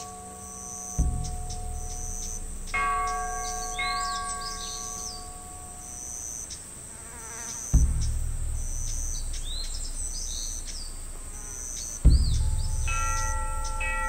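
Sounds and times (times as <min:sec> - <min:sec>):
bird chirps: 0:00.0 - 0:14.0
insects buzzing: 0:00.0 - 0:14.0
deep thud: 0:01.0 - 0:06.2, 0:07.8 - 0:14.0
low rumble: 0:01.0 - 0:06.6, 0:07.8 - 0:14.0.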